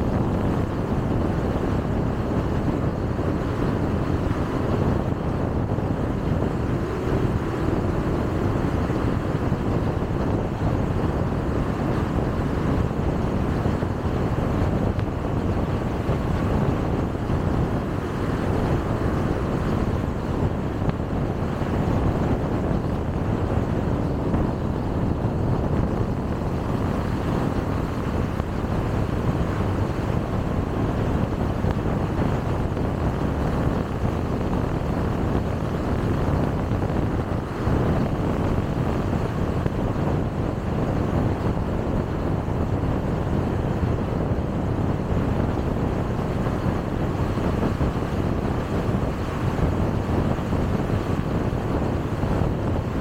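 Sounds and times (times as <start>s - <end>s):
car driving on a highway: 0.0s - 53.0s.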